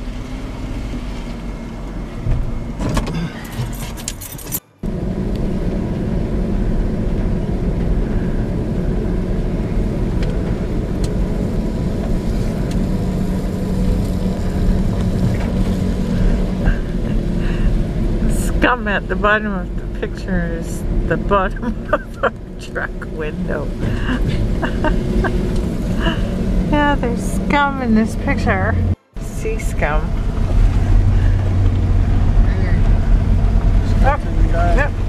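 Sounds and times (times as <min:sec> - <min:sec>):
truck engine and road rumble: 0:00.0 - 0:35.0.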